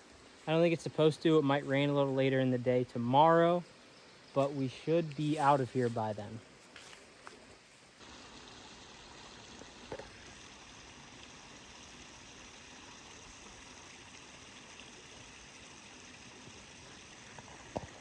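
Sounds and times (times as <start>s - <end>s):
creek and waterfall flowing: 0.0s - 18.0s.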